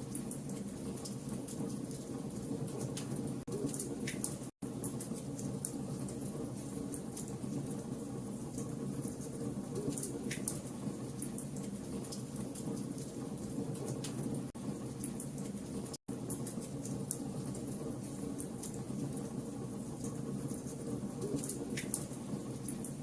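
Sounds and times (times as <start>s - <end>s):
wood fire crackling: 0.1s - 23.0s.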